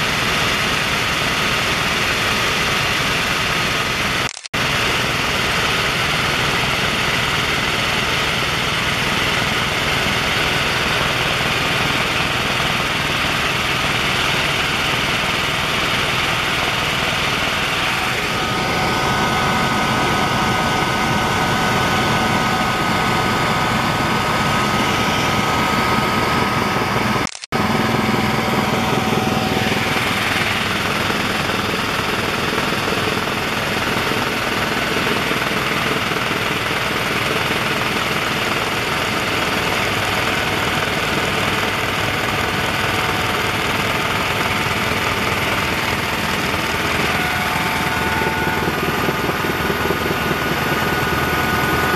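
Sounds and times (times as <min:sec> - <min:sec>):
helicopter engine and rotor drone: 0:00.0 - 0:51.9
high steady whine: 0:00.0 - 0:51.9.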